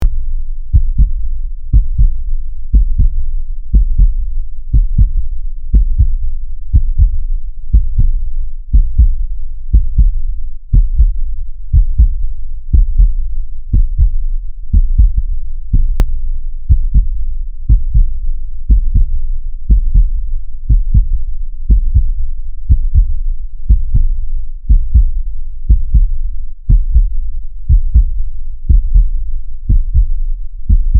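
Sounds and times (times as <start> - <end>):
heartbeat thumps: 0.0 - 30.9.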